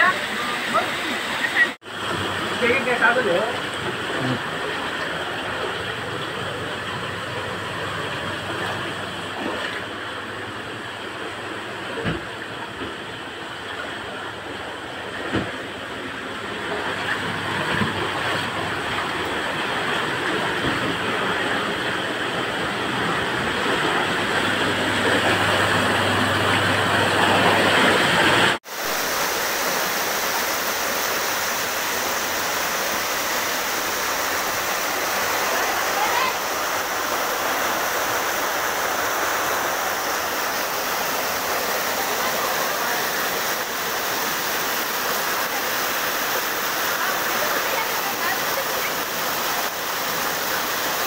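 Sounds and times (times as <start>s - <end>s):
fast-flowing floodwater: 0.0s - 51.0s
heavy rain: 0.0s - 51.0s.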